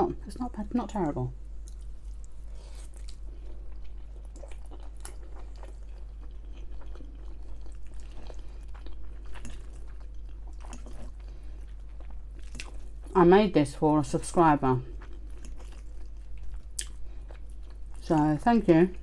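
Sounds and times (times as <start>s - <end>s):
chewing pasta: 1.5s - 13.2s, 14.7s - 19.0s.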